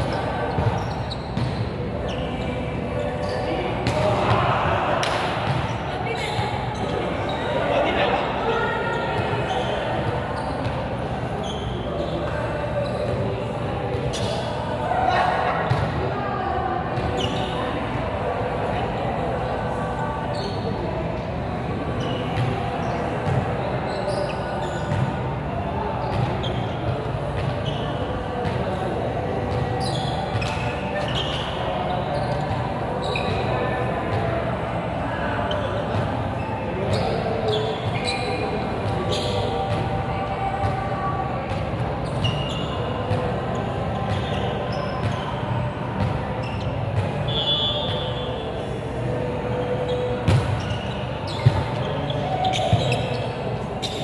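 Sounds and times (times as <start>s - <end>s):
sneakers squeaking on court floor: 0.0s - 16.0s, 16.8s - 19.4s, 20.0s - 54.0s.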